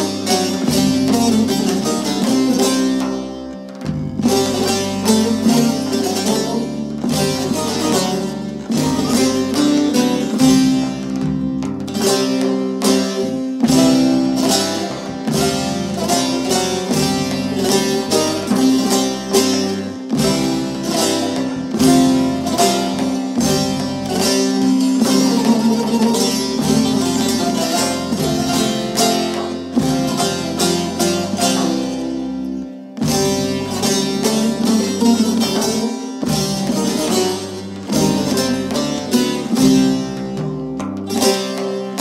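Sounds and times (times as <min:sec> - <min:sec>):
plucked lute ensemble: 0:00.0 - 0:42.0.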